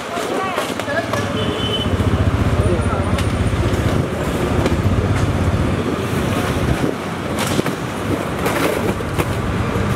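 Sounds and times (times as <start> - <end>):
heavy vehicle engine rumbling: 1.2 - 9.9.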